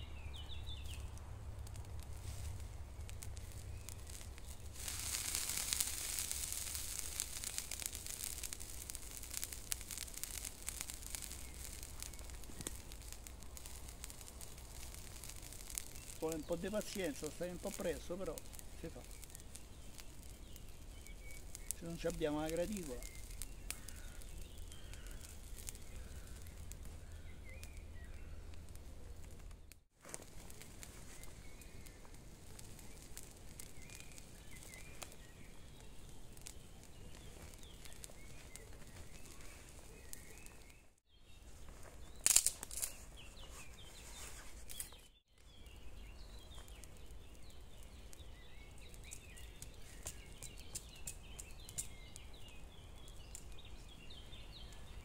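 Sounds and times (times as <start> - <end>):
faint crackles: 0.0 - 55.0
rustle: 0.0 - 55.0
small birds chirping: 0.0 - 55.0.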